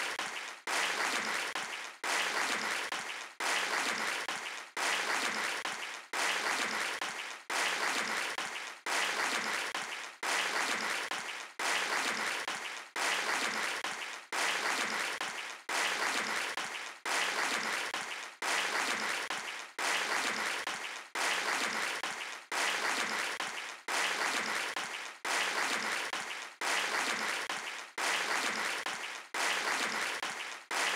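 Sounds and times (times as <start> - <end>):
looped audience applause: 0.0 - 30.9.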